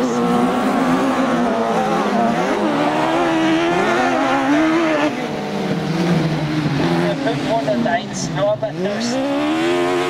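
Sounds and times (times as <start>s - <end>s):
racing buggy engines at full throttle: 0.0s - 10.0s.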